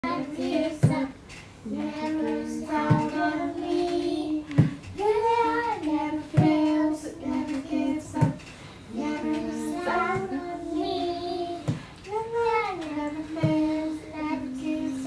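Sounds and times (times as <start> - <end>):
child singing long held notes: 0.0 - 15.0.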